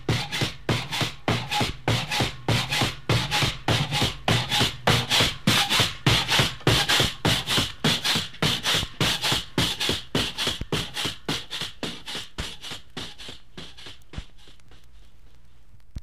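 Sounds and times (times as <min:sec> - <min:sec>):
pogo stick bouncing: 0:00.0 - 0:15.1.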